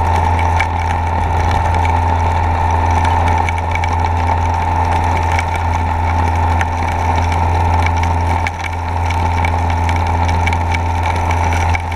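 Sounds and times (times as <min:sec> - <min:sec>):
underwater pump droning: 0:00.0 - 0:11.9.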